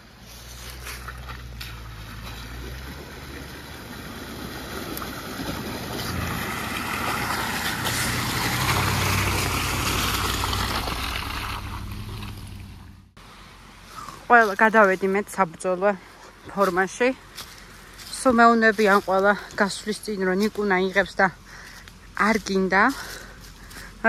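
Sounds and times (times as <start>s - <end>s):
engine humming: 0.0s - 24.0s
tyres rushing on wet ground: 0.0s - 24.0s.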